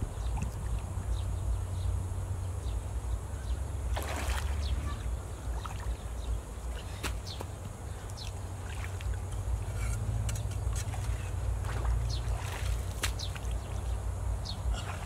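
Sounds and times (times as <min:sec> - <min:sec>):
water sloshing and splashing: 0:00.0 - 0:01.1, 0:03.9 - 0:15.0.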